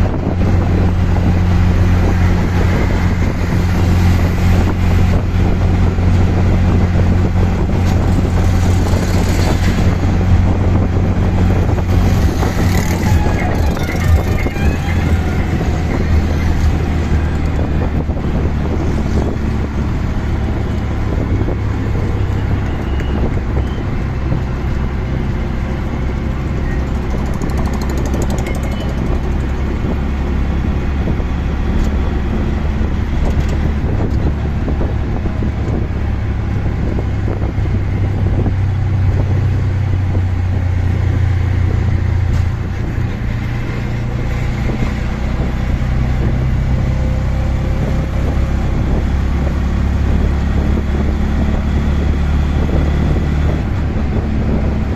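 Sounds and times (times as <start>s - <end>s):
rickshaw engine droning: 0.0s - 54.9s
road noise: 0.0s - 54.9s.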